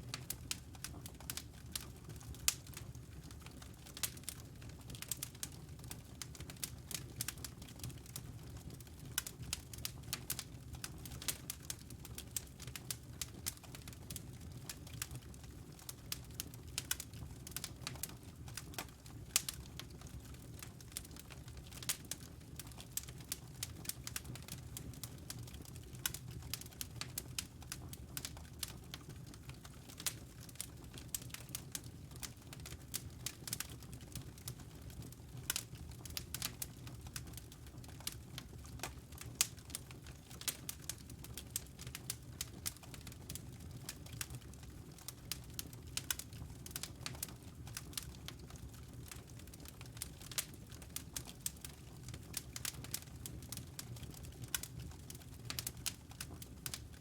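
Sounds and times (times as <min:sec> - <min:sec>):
wood fire crackling and popping: 0:00.0 - 0:57.0
low rumble of flames: 0:00.1 - 0:57.0.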